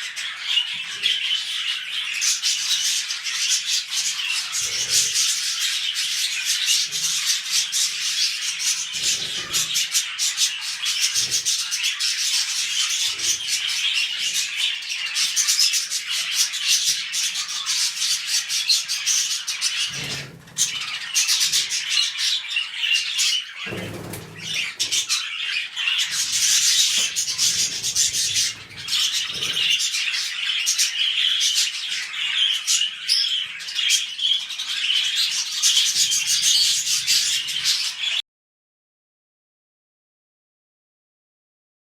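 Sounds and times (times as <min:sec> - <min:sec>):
budgerigars chattering and warbling: 0:00.0 - 0:38.2.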